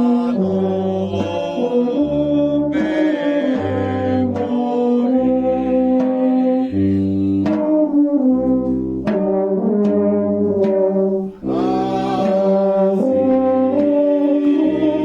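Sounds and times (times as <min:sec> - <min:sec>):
brass band playing slow chords: 0:00.0 - 0:15.0.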